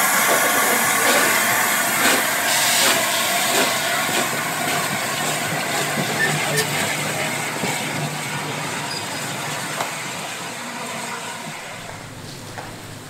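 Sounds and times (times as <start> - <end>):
steam locomotive hissing and running: 0.0 - 13.0.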